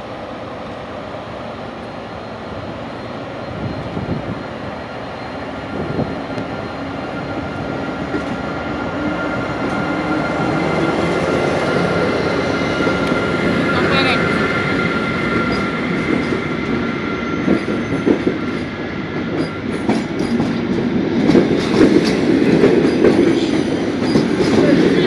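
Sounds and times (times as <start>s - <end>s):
diesel locomotive engine under load: 0.0s - 25.0s.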